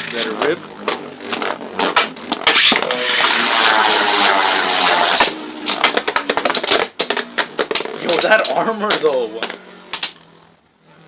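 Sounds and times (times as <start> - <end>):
spinning tops clacking: 0.0 - 10.2
spinning tops grinding: 0.0 - 10.2.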